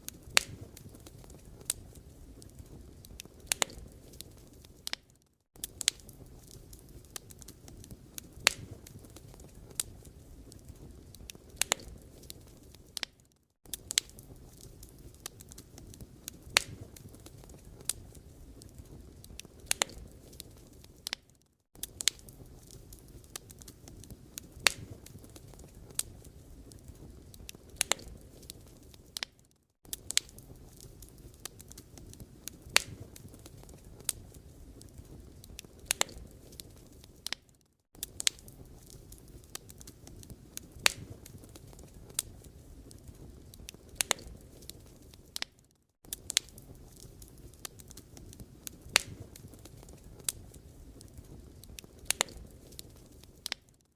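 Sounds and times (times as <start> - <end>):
low fire rumble: 0.0 - 45.5, 46.1 - 53.6
firewood crackling and popping: 0.0 - 53.9.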